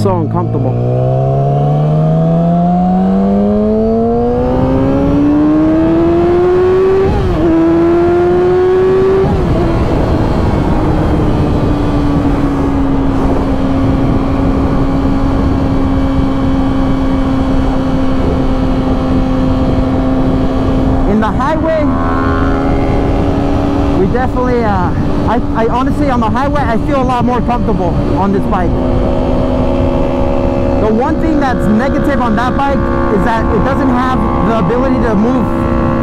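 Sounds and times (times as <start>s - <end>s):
motorcycle engine accelerating: 0.0s - 36.0s
wind rushing: 0.0s - 36.0s.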